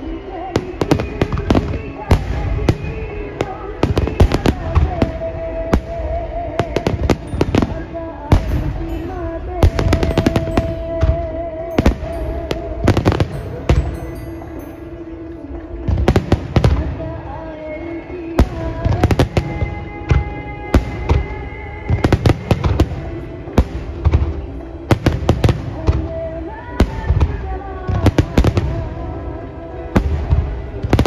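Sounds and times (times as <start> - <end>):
firework bangs and crackles: 0.0 - 31.0
music playing: 0.0 - 31.0.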